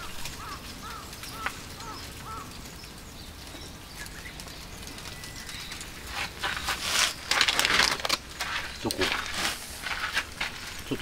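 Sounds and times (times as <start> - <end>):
loud rustling of handled objects: 0.0 - 11.0.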